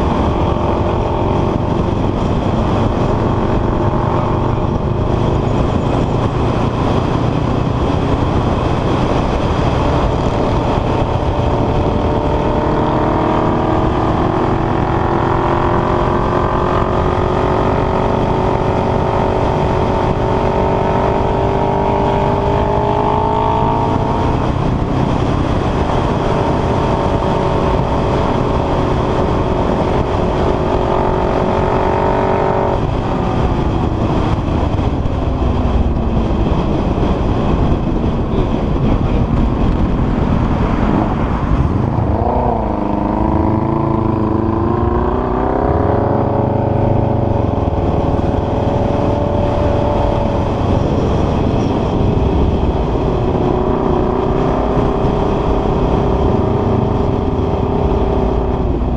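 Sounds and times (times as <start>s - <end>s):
motorcycle engine running: 0.0s - 58.9s
wind rush on microphone: 0.0s - 58.9s.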